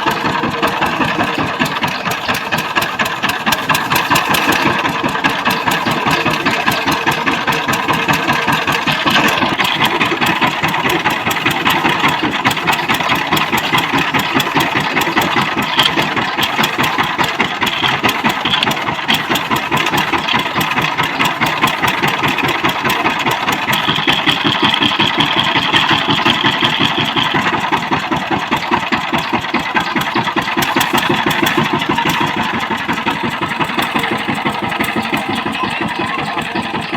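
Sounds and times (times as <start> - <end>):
tiller engine chugging: 0.0 - 36.9.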